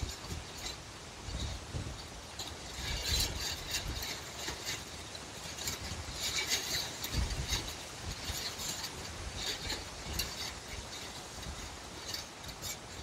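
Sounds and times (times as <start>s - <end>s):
gusting wind rumble: 0.0s - 13.0s
light clicks and clinks: 0.0s - 13.0s.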